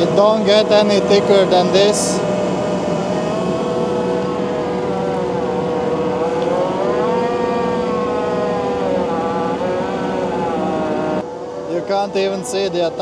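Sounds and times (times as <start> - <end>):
engine and hydraulic drone: 0.0 - 13.0
mulcher whining tone: 0.0 - 13.0.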